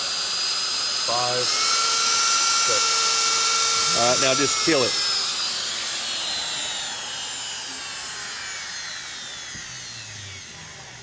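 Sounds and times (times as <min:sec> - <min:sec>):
spindle motor whine spinning down: 0:00.0 - 0:11.0.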